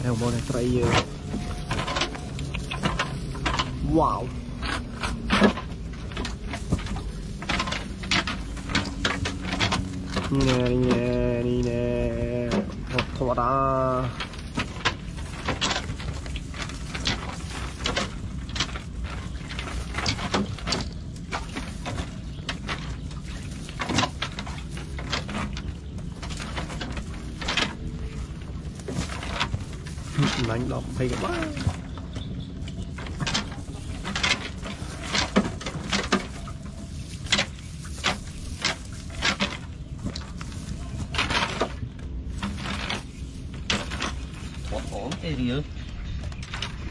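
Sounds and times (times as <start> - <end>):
clicks and knocks in boat: 0.0 - 46.9.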